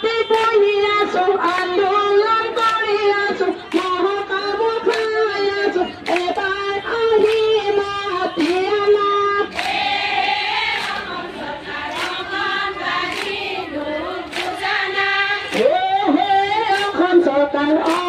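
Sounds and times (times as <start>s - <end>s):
women singing in unison: 0.0s - 18.0s.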